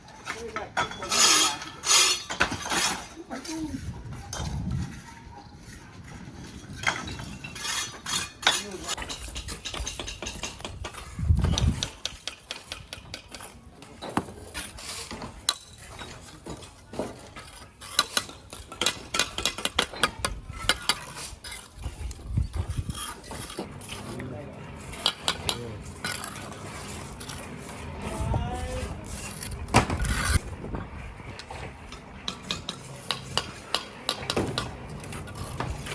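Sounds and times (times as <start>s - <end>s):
hand tools clinking and scraping: 0.0s - 35.9s.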